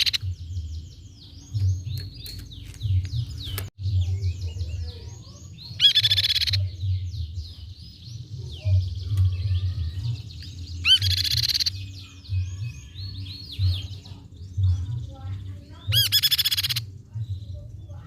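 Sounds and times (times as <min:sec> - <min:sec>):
buzzy bird trill: 0:00.0 - 0:18.0.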